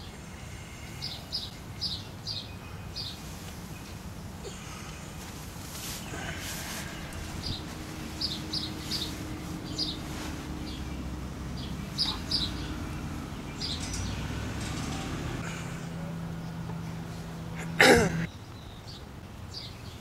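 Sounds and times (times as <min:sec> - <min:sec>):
low steady hum: 0:00.0 - 0:18.3
birds chirping: 0:00.0 - 0:20.0.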